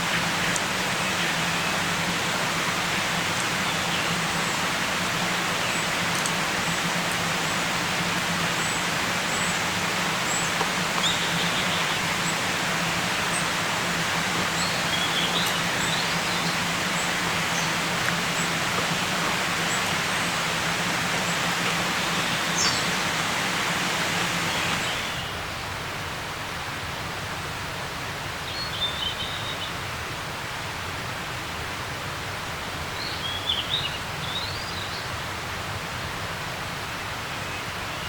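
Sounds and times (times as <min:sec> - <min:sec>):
steady rushing outdoor noise: 0:00.0 - 0:38.0.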